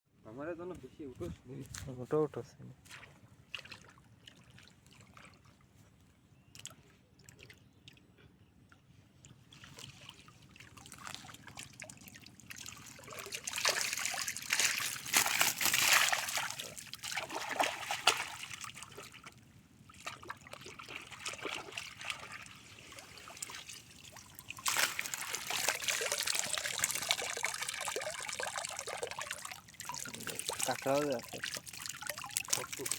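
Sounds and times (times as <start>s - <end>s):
water trickling and splashing: 2.8s - 32.9s.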